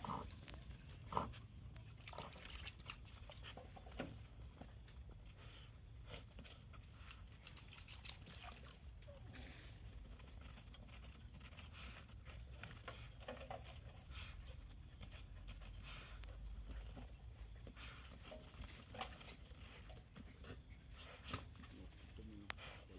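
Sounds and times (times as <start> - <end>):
paws scratching in dirt: 0.0 - 22.9.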